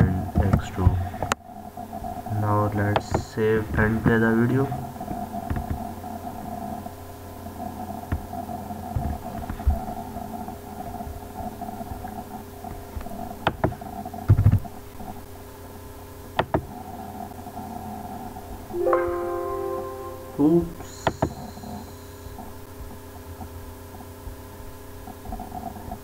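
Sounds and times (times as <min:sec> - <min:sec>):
electrical hum: 0:00.0 - 0:21.3.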